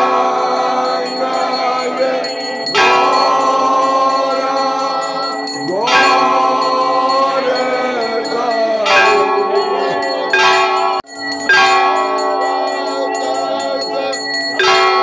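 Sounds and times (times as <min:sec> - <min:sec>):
heavy bell strike: 0:00.0 - 0:15.0
temple bells ringing: 0:00.0 - 0:15.0
voices singing: 0:00.0 - 0:15.0.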